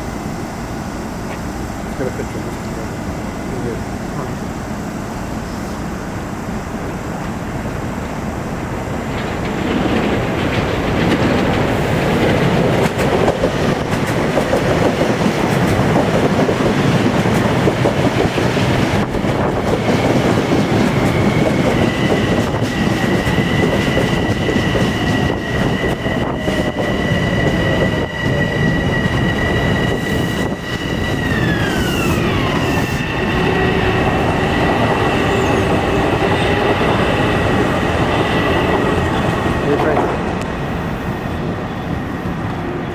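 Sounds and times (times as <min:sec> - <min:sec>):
train running on rails: 0:00.0 - 0:42.9.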